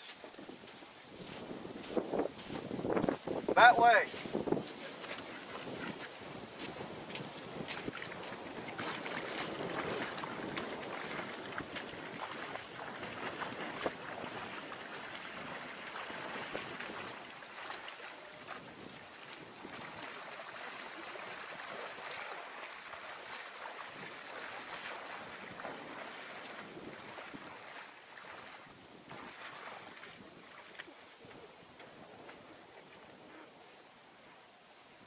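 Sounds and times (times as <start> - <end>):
wind noise on microphone: 0.0 - 20.4, 23.7 - 33.6
footsteps splashing through water: 0.0 - 35.0.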